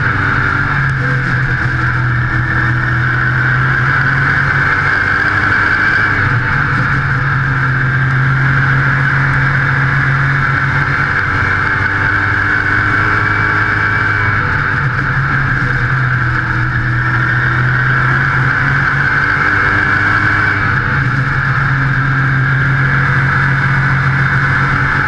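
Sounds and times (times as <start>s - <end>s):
race car engine running hard: 0.0s - 25.0s.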